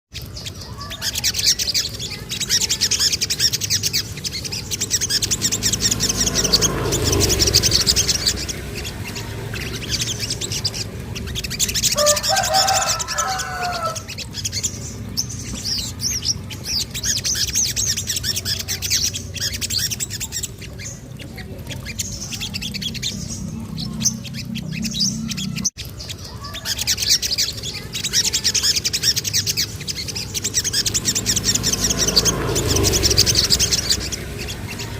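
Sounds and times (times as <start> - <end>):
bird chirping trills: 0.1 - 34.9.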